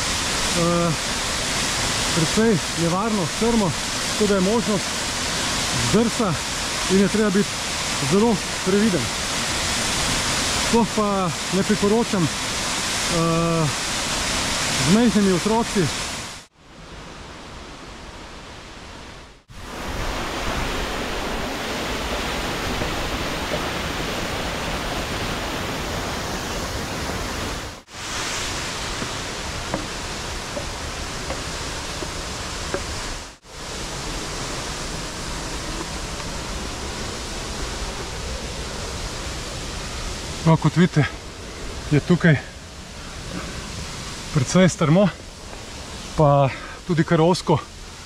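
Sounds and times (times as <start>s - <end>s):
waterfall rushing: 0.0s - 16.5s, 19.5s - 48.0s.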